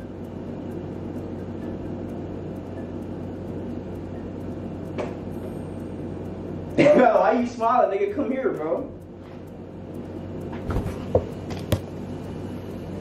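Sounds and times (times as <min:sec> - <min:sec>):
room noise hum and hiss: 0:00.0 - 0:13.0.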